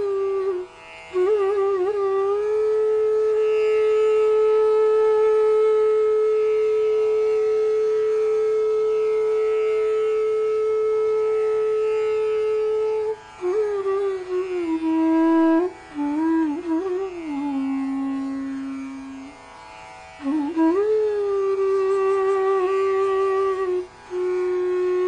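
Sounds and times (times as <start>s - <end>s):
ornamented melody: 0.0s - 25.0s.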